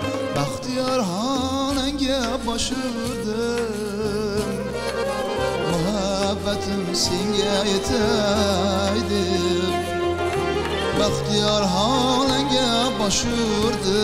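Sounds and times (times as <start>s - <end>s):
keyboard with bass notes: 0.0s - 14.0s
wavering melody with vibrato: 2.8s - 14.0s.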